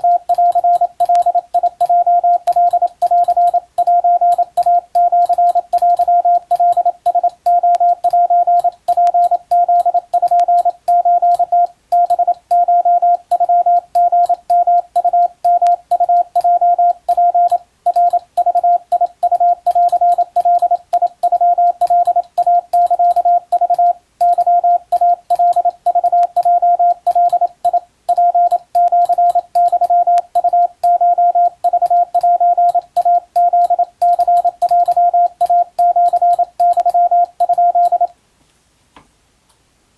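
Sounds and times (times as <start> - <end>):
morse code tone: 0.0 - 38.1.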